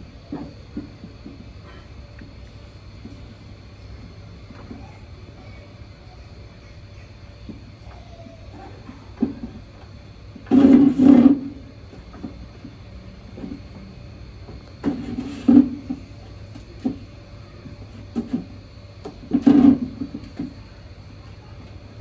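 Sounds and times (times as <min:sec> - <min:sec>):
kittens play-fighting in plastic bin: 0:00.0 - 0:22.0.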